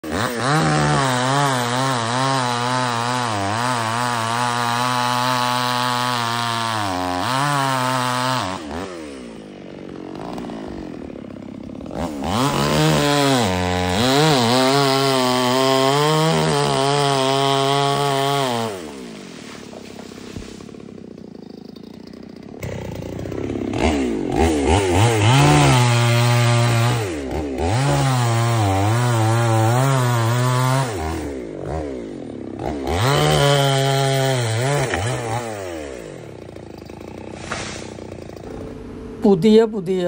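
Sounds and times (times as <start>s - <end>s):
chainsaw cutting wood: 0.0s - 39.6s.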